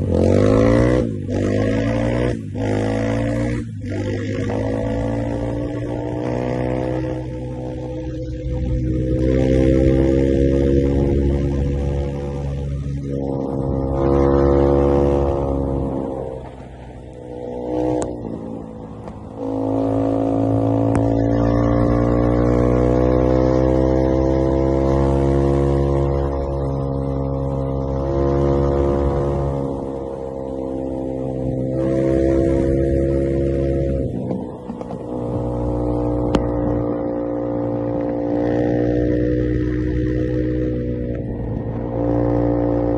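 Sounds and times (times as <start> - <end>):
motorcycle engine running hard: 0.0 - 42.9.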